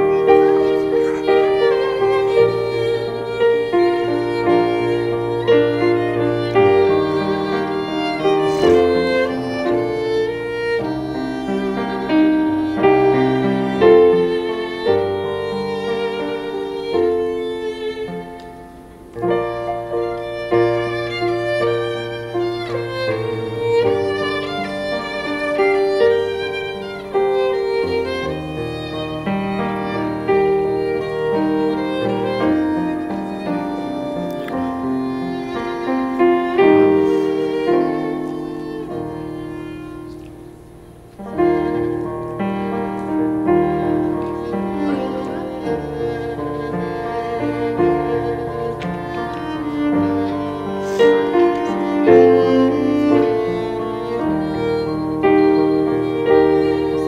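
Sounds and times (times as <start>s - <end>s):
slow violin melody: 0.0s - 57.0s.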